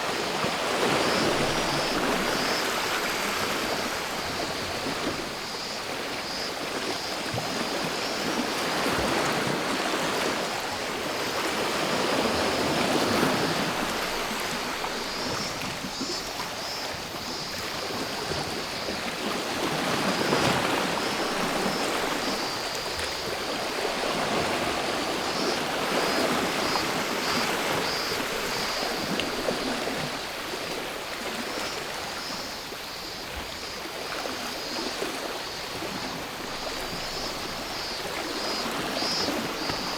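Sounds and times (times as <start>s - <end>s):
cicadas buzzing: 0.2s - 39.9s.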